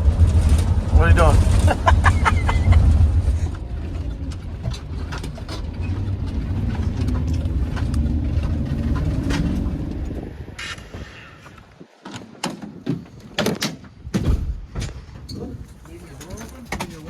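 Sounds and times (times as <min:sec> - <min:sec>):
vehicle engine and road rumble: 0:00.0 - 0:12.0, 0:13.0 - 0:17.0.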